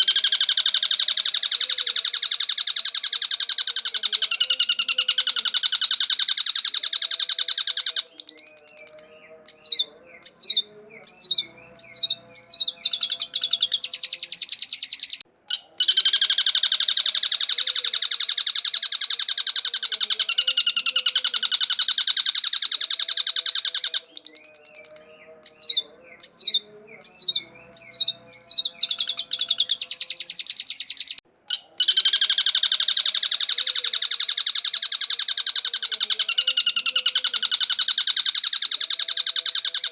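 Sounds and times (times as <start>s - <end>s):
bird harsh chatter song: 0.0s - 39.9s.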